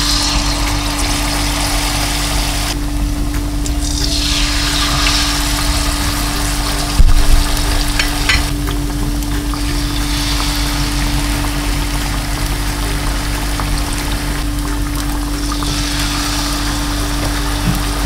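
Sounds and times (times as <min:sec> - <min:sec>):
chicken wings sizzling in oil: 0:00.0 - 0:18.0
steady low hum: 0:00.0 - 0:18.0.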